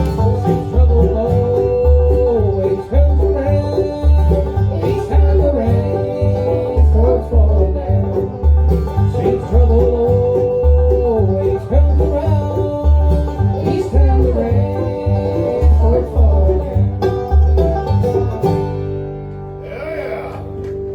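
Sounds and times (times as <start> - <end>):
banjo: 0.0 - 19.6
mandolin: 0.0 - 19.6, 20.4 - 20.9
bass notes: 0.0 - 20.9
guitar: 0.0 - 20.9.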